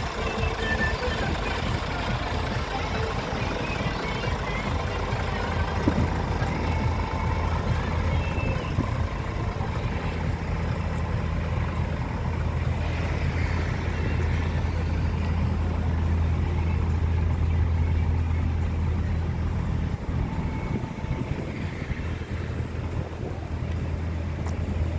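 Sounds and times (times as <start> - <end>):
truck engine droning: 0.0 - 24.9.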